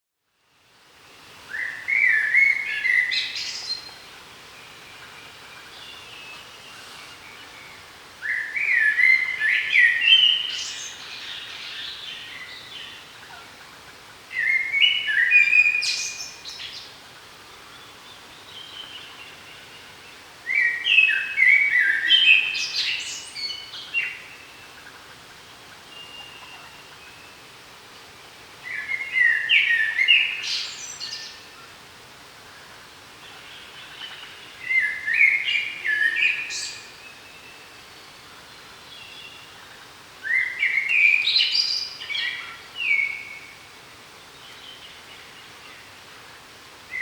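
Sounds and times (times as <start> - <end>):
songbird singing: 1.3 - 31.8, 32.4 - 47.0.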